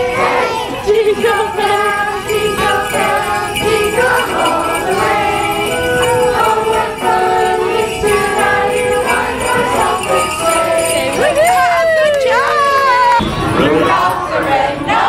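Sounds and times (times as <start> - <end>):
christmas music: 0.0 - 15.0
sleigh bells jingling: 0.0 - 15.0.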